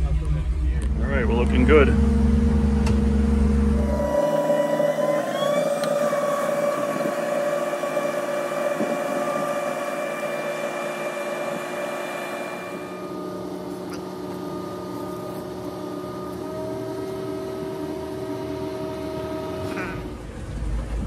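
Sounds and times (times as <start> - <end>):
boat engine whine: 0.0 - 21.0
deep engine drone: 0.0 - 21.0.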